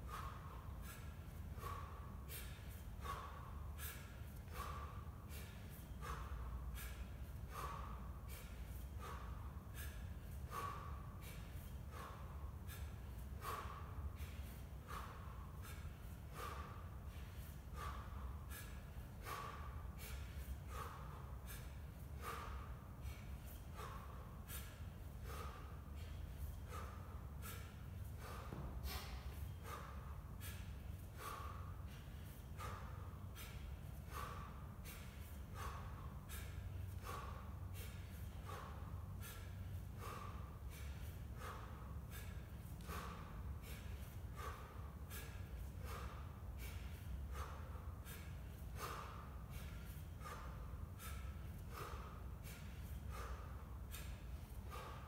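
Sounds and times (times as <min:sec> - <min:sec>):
man breathing forcefully: 0:00.0 - 0:55.0.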